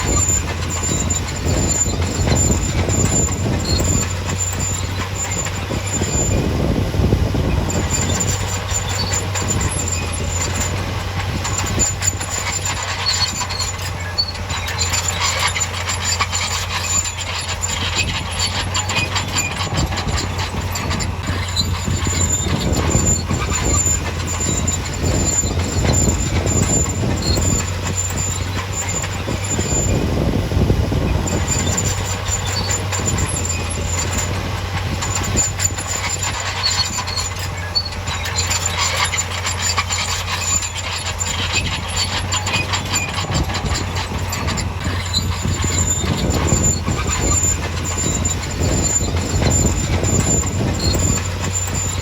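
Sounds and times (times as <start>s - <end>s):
diesel engine low drone: 0.0s - 52.0s
metallic clanking and squealing: 0.0s - 52.0s.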